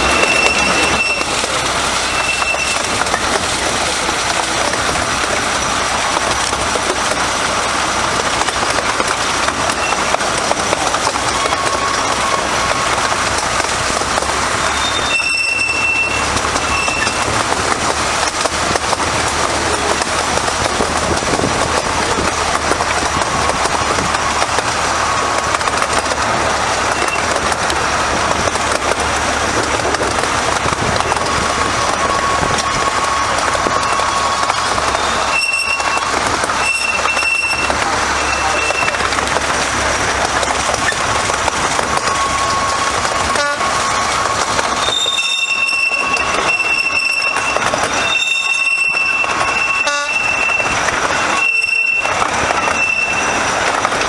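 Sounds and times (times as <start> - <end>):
train wheels rumbling on rails: 0.0 - 54.0
wheel squeal: 0.0 - 54.0.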